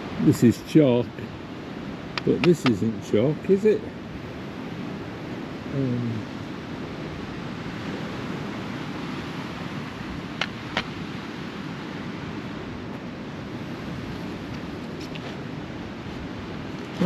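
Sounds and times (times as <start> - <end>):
surf on rocky shore: 0.0 - 17.0
wind: 0.0 - 17.0.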